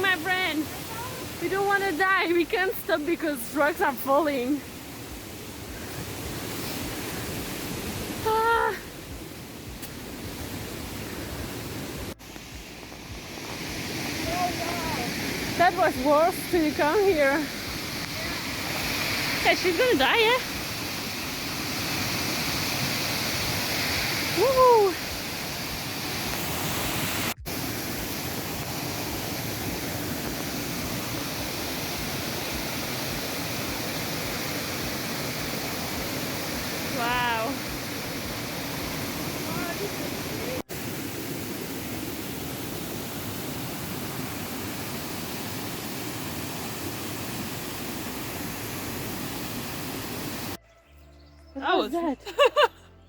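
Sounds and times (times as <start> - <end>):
waterfall roaring: 0.0 - 50.6.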